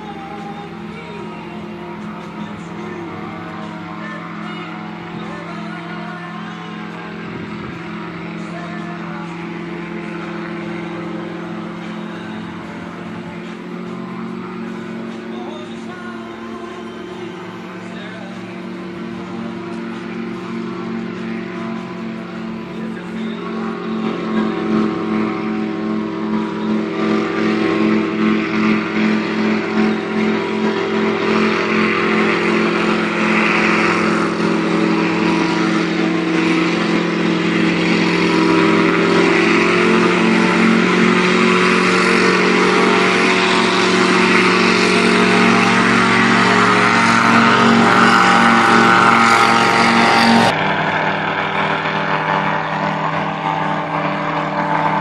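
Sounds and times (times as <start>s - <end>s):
gyroplane engine and propeller: 0.0s - 55.0s
quieter engine note: 0.0s - 55.0s.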